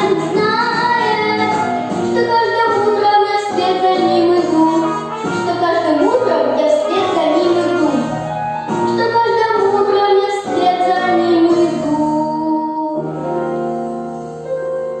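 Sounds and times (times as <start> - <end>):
girl singing pop song: 0.0 - 13.2
instrumental accompaniment: 0.0 - 15.0.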